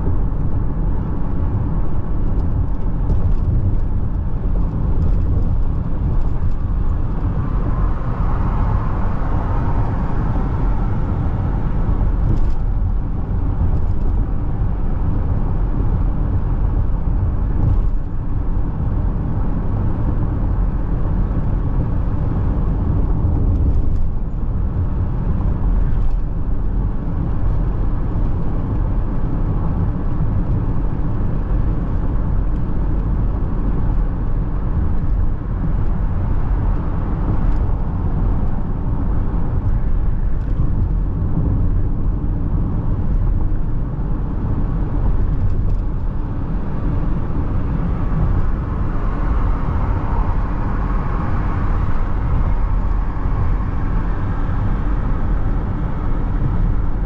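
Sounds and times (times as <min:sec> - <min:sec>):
car interior road noise: 0:00.0 - 0:57.0.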